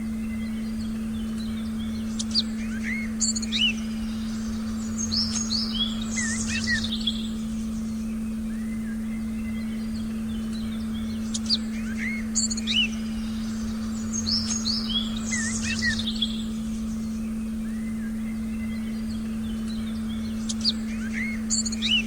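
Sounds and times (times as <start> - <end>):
birds chirping: 0.0 - 22.0
steady low tone: 0.0 - 22.0.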